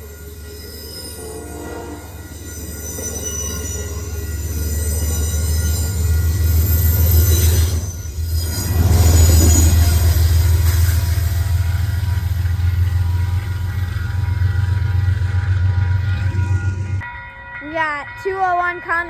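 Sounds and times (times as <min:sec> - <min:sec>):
train diesel drone: 0:00.0 - 0:17.0
wheels squealing on rails: 0:00.0 - 0:17.0.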